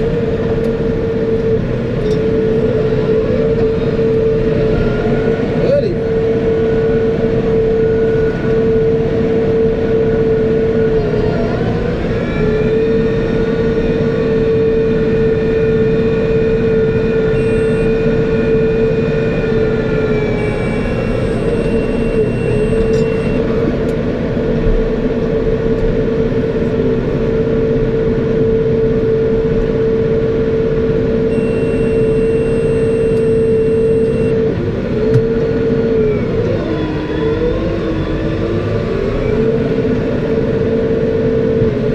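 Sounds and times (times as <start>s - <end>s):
steady whine: 0.0s - 41.9s.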